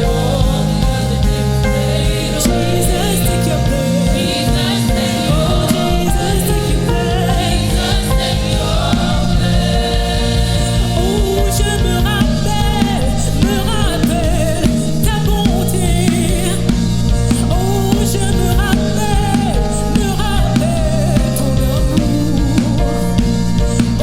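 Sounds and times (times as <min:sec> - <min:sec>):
instrumental accompaniment: 0:00.0 - 0:24.0
person singing worship song: 0:00.0 - 0:24.0.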